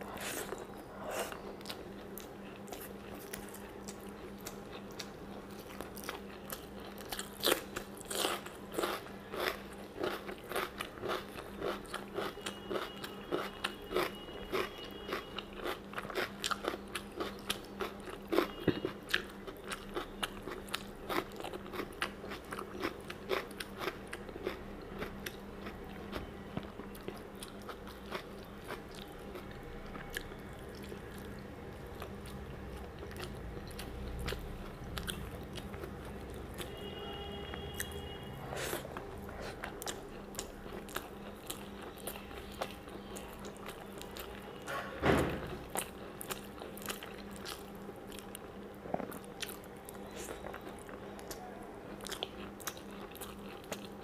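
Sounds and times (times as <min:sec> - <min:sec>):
close chewing: 0:00.0 - 0:36.8, 0:37.5 - 0:44.6, 0:45.6 - 0:54.0
steady low hum: 0:00.0 - 0:54.0.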